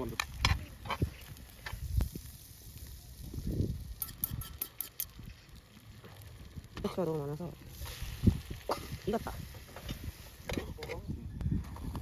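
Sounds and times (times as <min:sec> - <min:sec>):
batter sizzling in a pan: 0:00.0 - 0:10.8.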